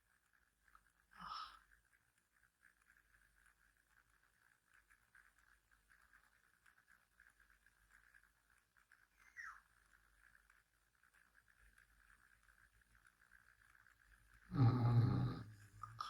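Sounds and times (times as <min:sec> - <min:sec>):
thin flickering hiss: 0:00.0 - 0:16.0.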